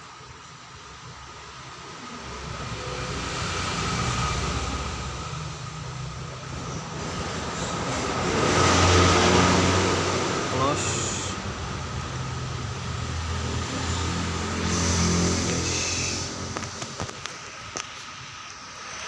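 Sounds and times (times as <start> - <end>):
passing vehicle rumble: 2.2 - 19.0.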